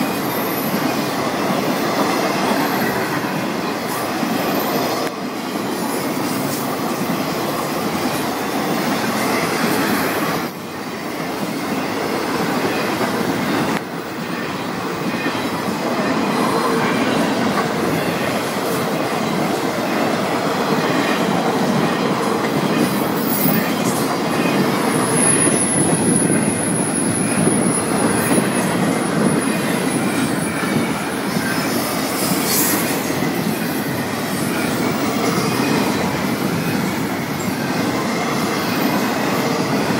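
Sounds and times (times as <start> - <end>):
train wheels clattering on rail: 0.0 - 39.9.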